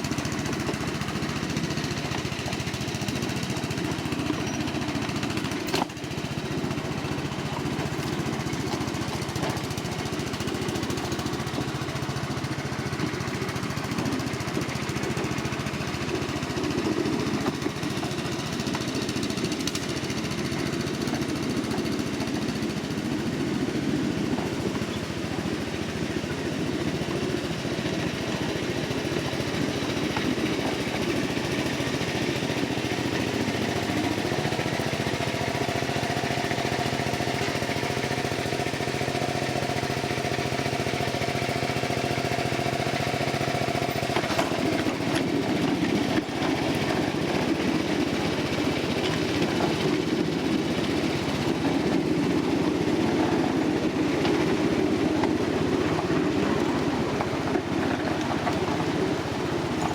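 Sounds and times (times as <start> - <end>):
riding train running on track: 0.0 - 59.9.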